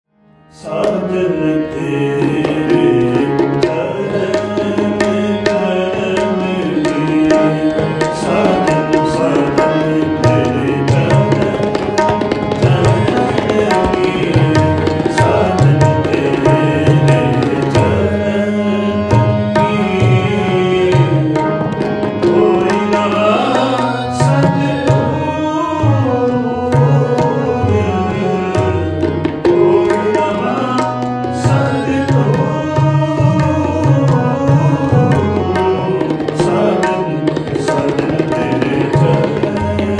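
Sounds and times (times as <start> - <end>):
harmonium tones: 0.2 - 39.9
tabla playing: 0.6 - 39.9.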